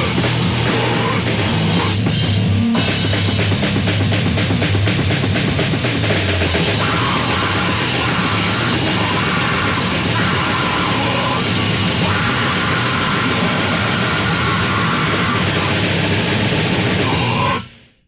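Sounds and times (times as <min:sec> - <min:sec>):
fast drumming: 0:00.0 - 0:17.7
distorted guitars: 0:00.0 - 0:18.0.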